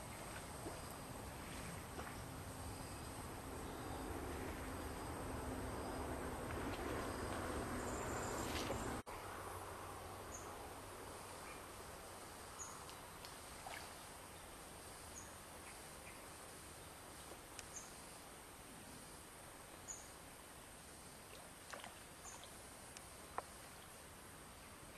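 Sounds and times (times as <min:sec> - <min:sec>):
steady background hiss: 0:00.0 - 0:24.9.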